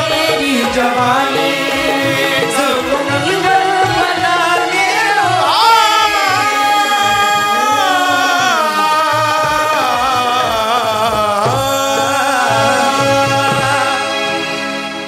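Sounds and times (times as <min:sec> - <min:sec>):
dholak drum beat: 0:00.0 - 0:14.3
harmonium melody: 0:00.0 - 0:15.0.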